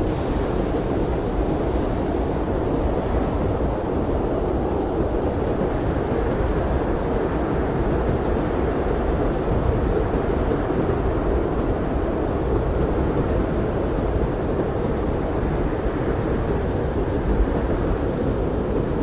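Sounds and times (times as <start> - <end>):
blizzard wind rushing: 0.0 - 19.0.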